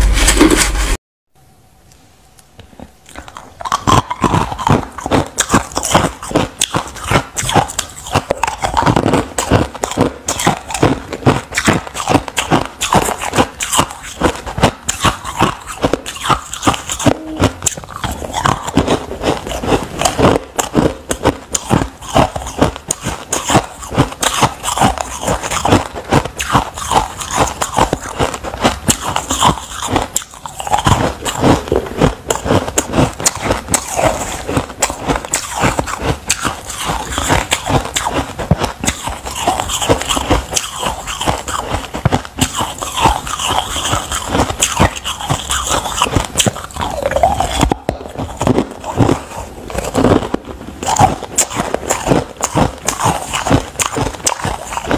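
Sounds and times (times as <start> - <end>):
person crunching ice: 3.1 - 54.9.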